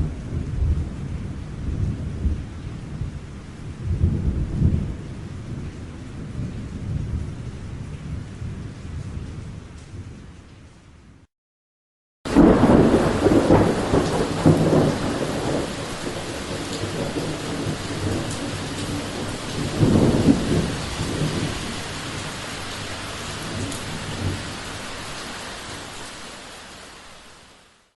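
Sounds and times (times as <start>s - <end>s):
thunder rumbling: 0.0s - 10.4s, 12.3s - 24.8s
steady rain: 0.0s - 11.3s, 12.3s - 28.0s.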